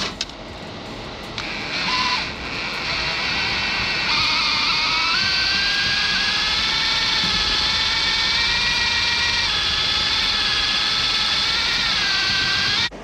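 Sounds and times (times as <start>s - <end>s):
small electric motor whining: 1.4s - 13.0s.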